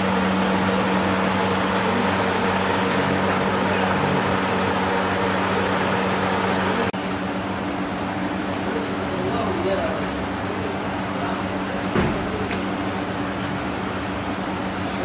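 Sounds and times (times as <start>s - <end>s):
air cooler fan running: 0.0s - 15.0s.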